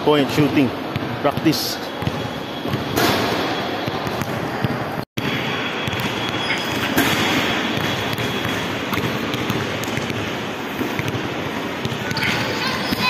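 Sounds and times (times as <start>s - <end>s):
hubbub of shoppers in echoing hall: 0.0s - 13.0s.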